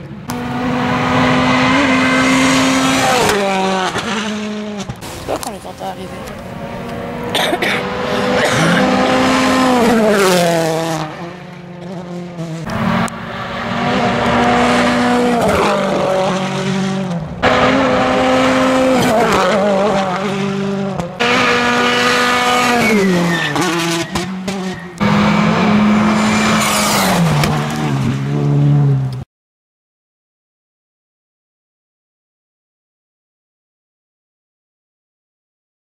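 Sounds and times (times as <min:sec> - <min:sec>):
rally car engines revving: 0:00.0 - 0:29.2.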